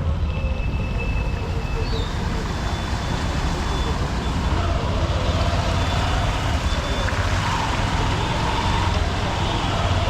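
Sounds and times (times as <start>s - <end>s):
road and traffic noise: 0.0s - 10.0s.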